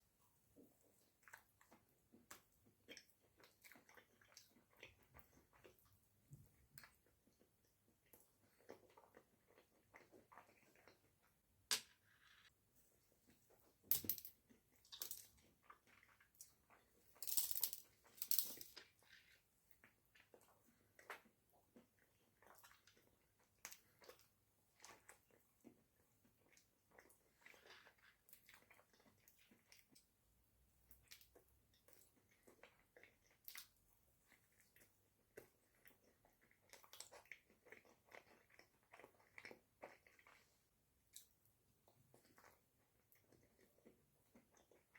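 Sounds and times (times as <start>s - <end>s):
chewing: 0.9s - 11.4s, 18.0s - 30.1s, 30.9s - 44.9s.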